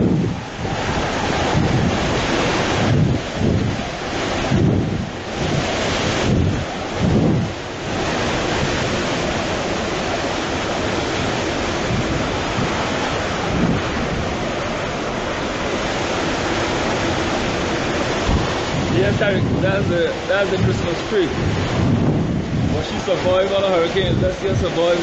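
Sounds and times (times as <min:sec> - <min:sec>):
steady rush of wind: 0:00.0 - 0:25.0
strong wind gusts buffeting microphone: 0:00.0 - 0:25.0.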